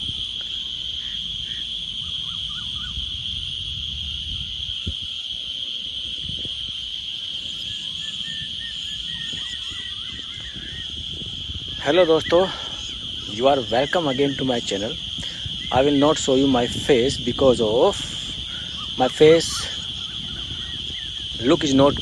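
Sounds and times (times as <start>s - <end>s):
faint insect chirps: 0.0s - 22.0s
insects shrill drone: 0.0s - 22.0s.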